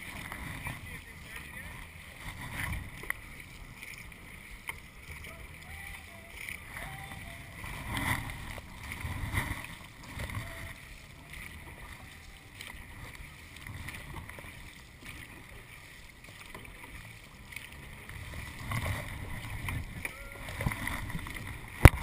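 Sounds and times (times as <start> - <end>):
paddles splashing in water: 0.0 - 22.0.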